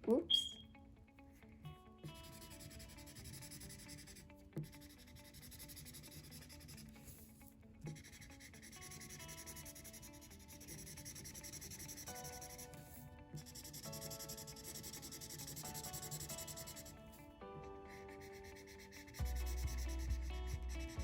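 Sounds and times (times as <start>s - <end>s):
soft background music: 0.0s - 21.0s
marker scratching on paper: 2.1s - 7.3s, 7.9s - 17.2s, 17.9s - 21.0s.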